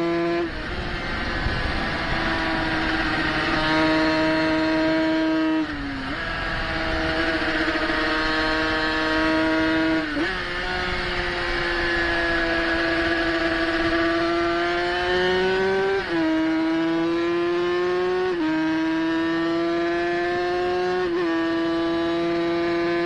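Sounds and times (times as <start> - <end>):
racing motorcycle engine accelerating: 0.0 - 23.0.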